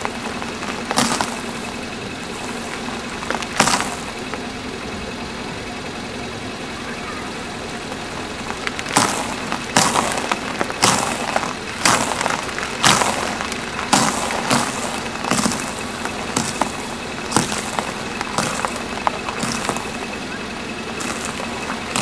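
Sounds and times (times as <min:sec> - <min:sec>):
car tyre crushing crackers: 0:00.0 - 0:05.2, 0:07.5 - 0:22.0
car engine running: 0:00.0 - 0:22.0.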